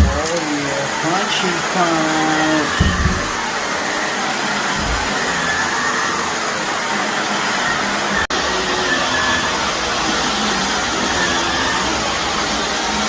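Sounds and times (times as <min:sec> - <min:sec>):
vacuum cleaner running on carpet: 0:00.0 - 0:13.0.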